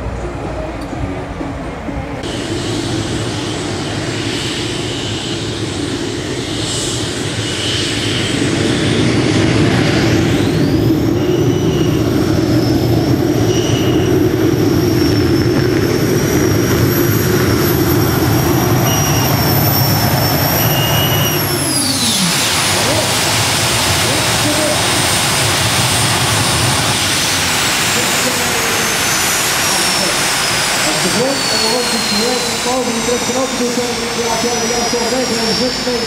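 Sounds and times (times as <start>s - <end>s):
high-pitched whine: 0.0s - 36.0s
tractor engine at full power: 0.0s - 36.0s.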